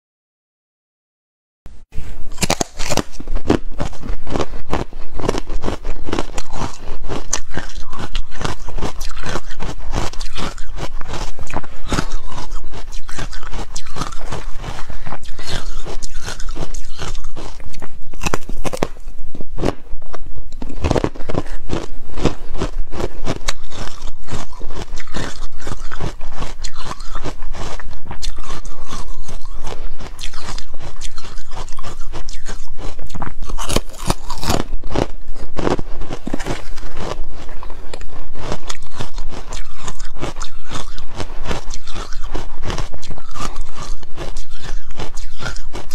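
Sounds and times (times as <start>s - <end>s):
crunchy chewing: 2.1s - 45.9s.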